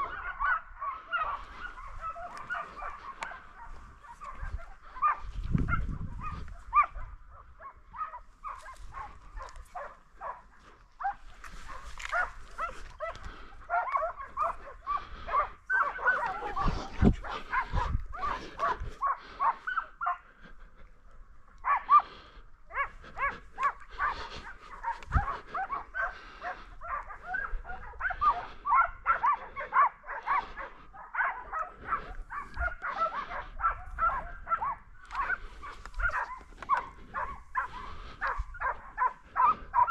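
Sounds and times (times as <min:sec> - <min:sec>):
hunting dogs baying and yelping: 0:00.0 - 0:39.9.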